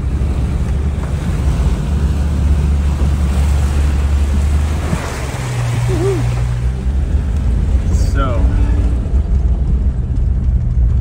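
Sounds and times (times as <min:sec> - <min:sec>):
water rushing and splashing: 0:00.0 - 0:10.9
low engine drone: 0:00.0 - 0:11.0.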